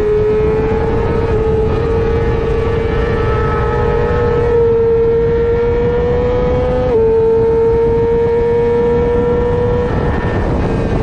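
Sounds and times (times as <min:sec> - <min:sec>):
motorcycle engine at high revs: 0:00.0 - 0:11.0
wind rush: 0:00.0 - 0:11.0.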